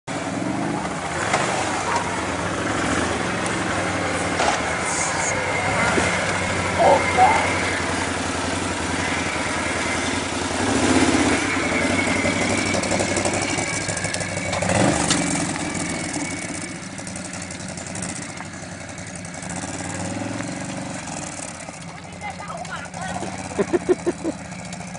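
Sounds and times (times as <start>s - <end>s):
atv engine idling and revving: 0.0s - 24.9s.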